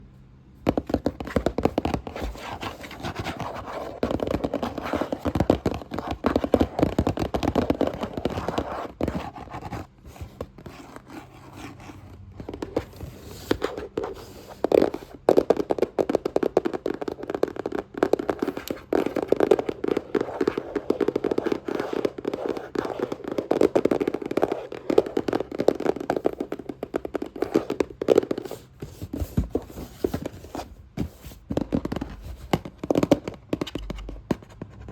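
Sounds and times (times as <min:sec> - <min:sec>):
rapid finger tapping on box: 0:00.6 - 0:34.8.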